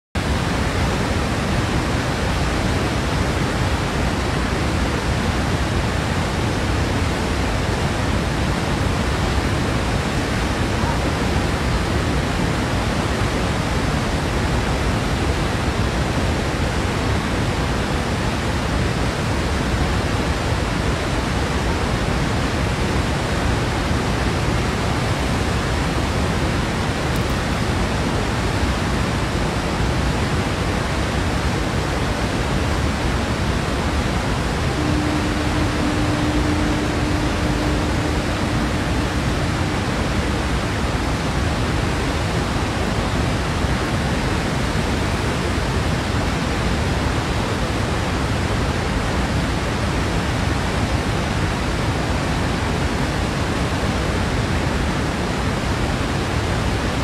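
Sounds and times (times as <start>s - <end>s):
waterfall rushing: 0.2s - 57.0s.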